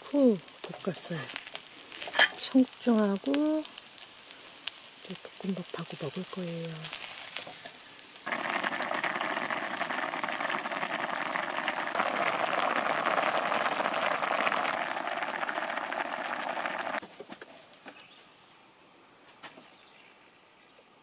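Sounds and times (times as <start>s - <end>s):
stew bubbling at a hard boil: 0.0s - 17.0s.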